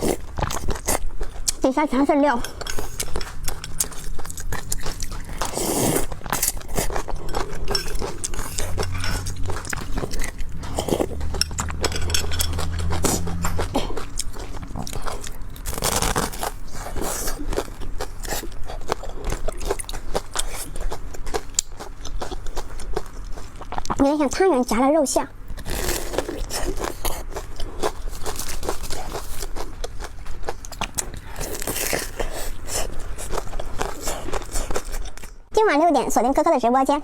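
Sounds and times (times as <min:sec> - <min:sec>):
biting and chewing: 0:00.0 - 0:24.1, 0:25.4 - 0:35.5.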